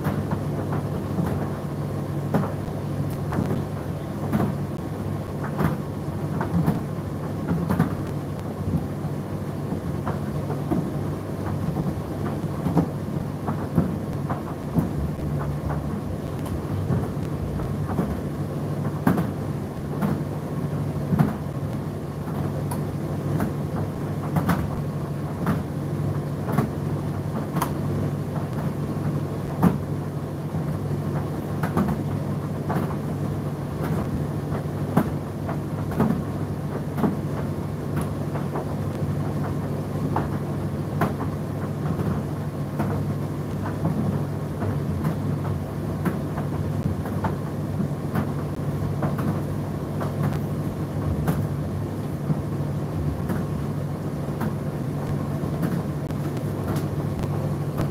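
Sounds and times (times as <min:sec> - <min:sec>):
tumble dryer motor hum: 0:00.0 - 0:57.9.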